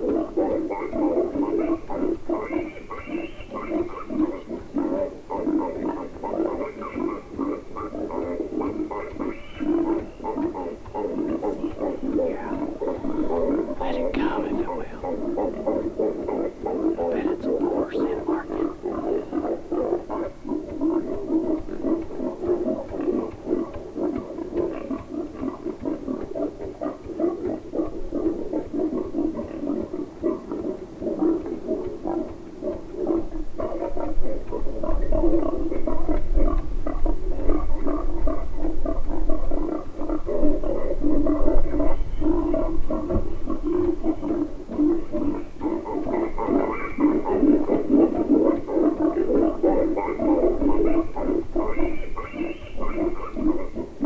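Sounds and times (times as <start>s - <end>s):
wild boar grunting: 0.0s - 54.0s.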